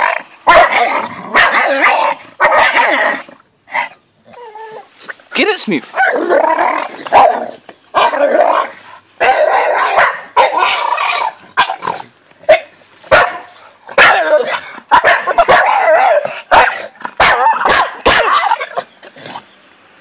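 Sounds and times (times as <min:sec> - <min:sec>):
dog yipping and barking: 0:00.0 - 0:04.9, 0:06.0 - 0:18.9.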